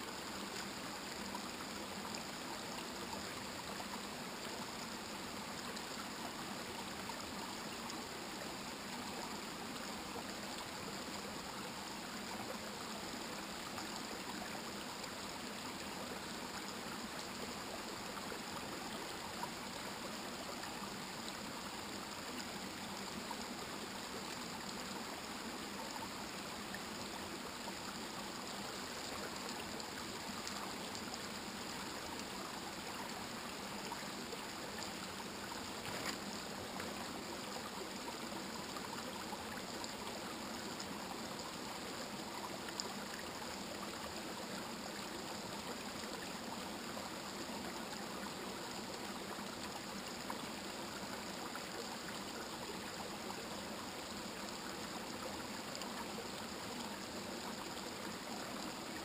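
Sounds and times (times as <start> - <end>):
river flowing over stones: 0.0 - 59.0.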